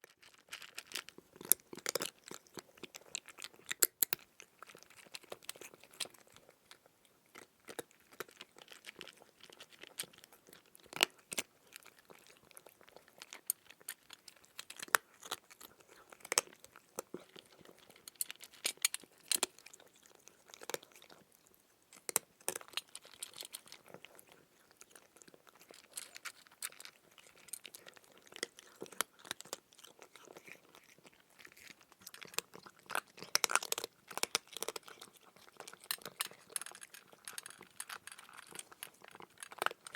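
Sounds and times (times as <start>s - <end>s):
cat chewing crunchy food: 0.0s - 39.9s.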